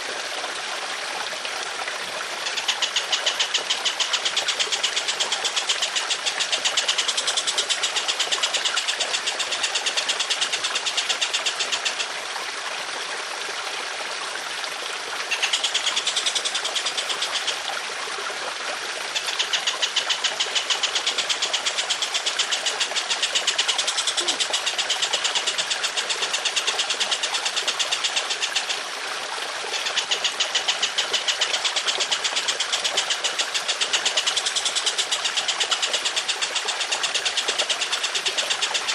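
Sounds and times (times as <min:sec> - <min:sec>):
trickling water: 0:00.0 - 0:38.9
songbird harsh rattling: 0:02.3 - 0:12.1, 0:15.2 - 0:17.7, 0:19.0 - 0:28.8, 0:29.7 - 0:38.9.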